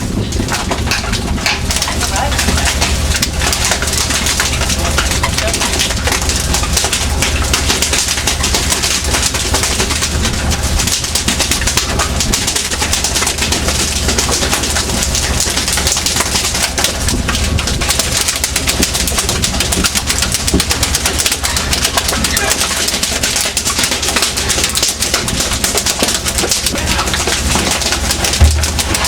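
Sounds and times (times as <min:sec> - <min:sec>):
boat engine hum: 0:00.0 - 0:29.0
rushing water noise: 0:00.0 - 0:29.0.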